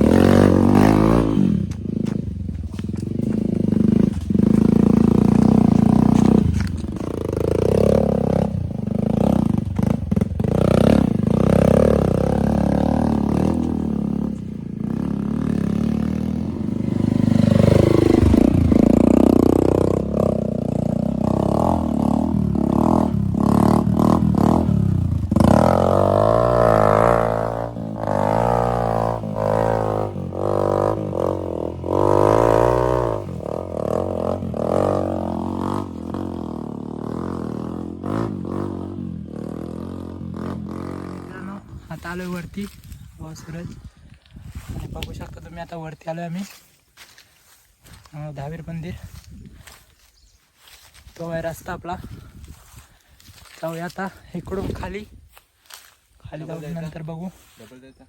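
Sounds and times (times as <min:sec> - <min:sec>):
motorcycle engine revving: 0:00.0 - 0:57.8.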